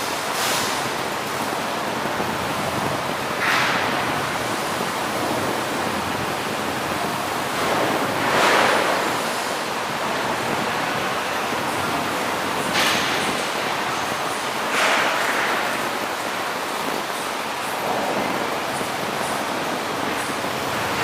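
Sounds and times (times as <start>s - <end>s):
steady rushing noise: 0.0s - 21.0s.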